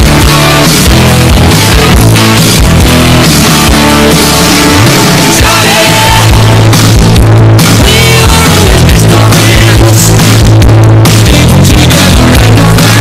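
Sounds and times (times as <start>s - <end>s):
hard rock music: 0.0s - 13.0s.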